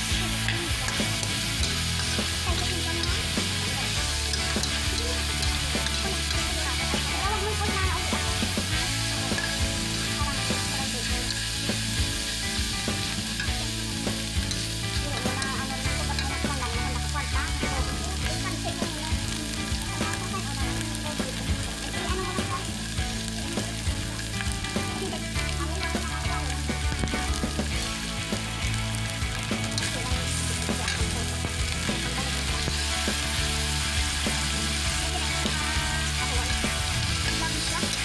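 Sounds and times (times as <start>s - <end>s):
meat sizzling in a frying pan: 0.0s - 38.0s.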